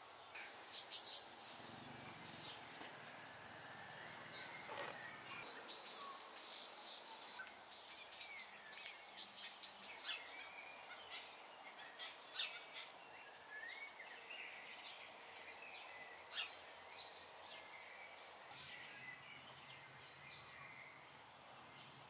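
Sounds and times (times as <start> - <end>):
birds chirping and calling: 0.3 - 21.1.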